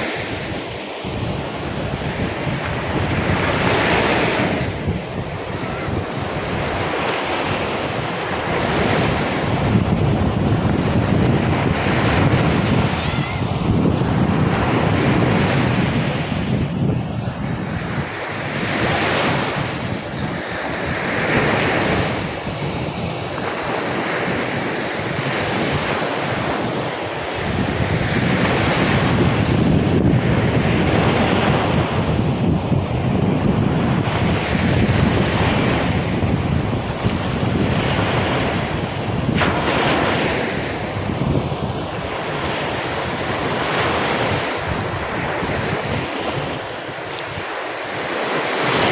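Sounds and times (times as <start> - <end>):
surf breaking on beach: 0.0 - 48.9
wind buffeting microphone: 0.0 - 48.9.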